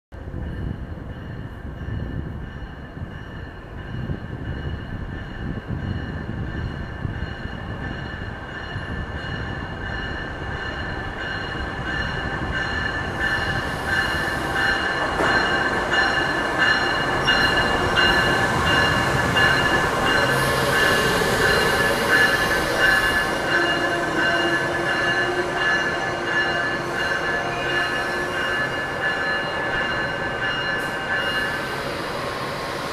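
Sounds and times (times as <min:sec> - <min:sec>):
train rumbling: 0:00.1 - 0:32.9
train brakes squealing: 0:05.4 - 0:32.9.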